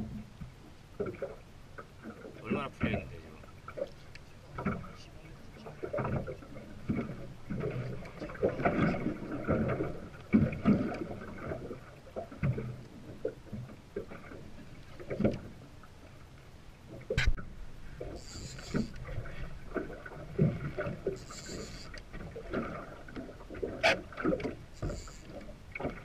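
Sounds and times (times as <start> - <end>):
water slapping against boat hull: 0.0 - 15.6, 16.9 - 26.0.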